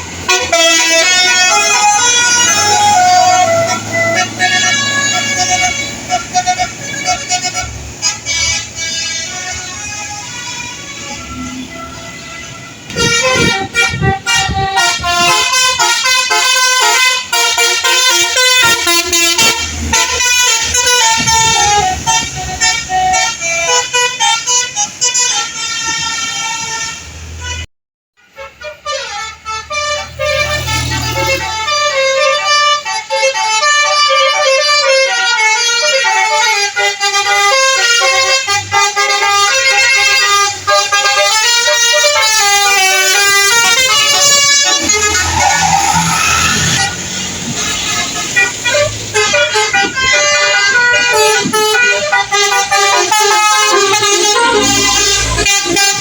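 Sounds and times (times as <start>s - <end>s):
multi-note melodic air horns: 0.0s - 56.0s.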